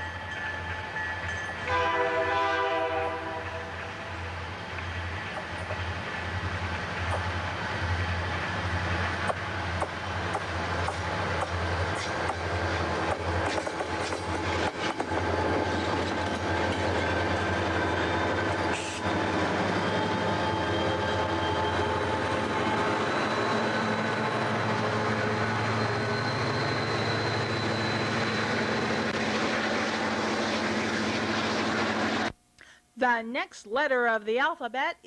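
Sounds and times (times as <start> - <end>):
freight train rolling past: 0.0 - 32.3
wheels rumbling on rail: 0.0 - 32.3.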